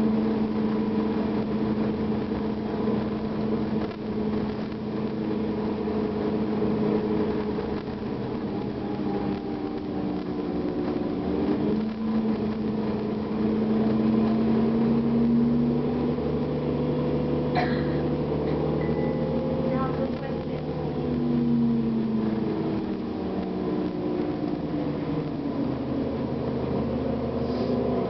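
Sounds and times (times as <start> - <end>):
diesel bus engine running: 0.0 - 28.0.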